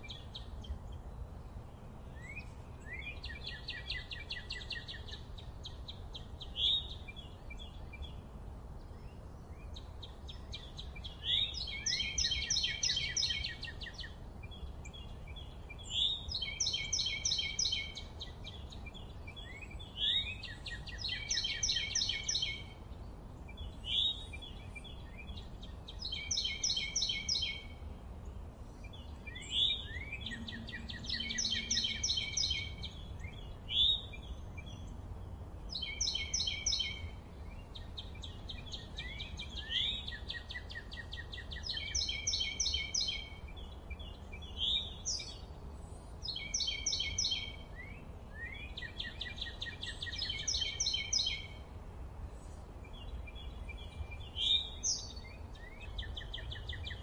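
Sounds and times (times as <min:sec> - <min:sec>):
low background rumble: 0:00.0 - 0:57.0
songbirds trilling: 0:00.0 - 0:57.0.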